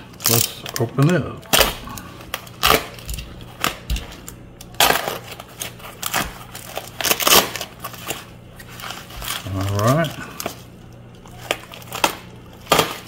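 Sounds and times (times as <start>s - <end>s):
plastic wrap crinkling: 0.1s - 13.0s.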